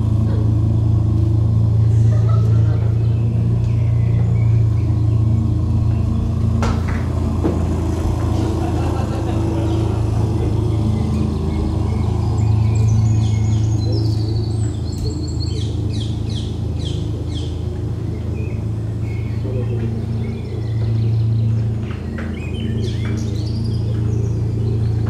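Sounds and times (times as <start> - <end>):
birdsong chirps and trills: 0.0 - 25.0
low drone: 0.0 - 25.0.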